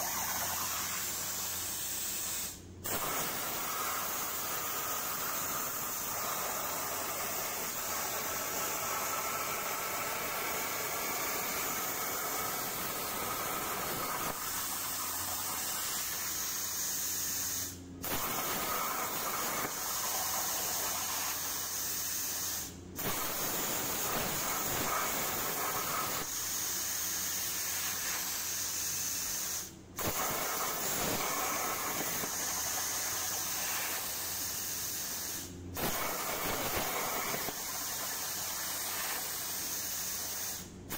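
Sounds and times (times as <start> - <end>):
plasma torch hissing: 0.0 - 40.9.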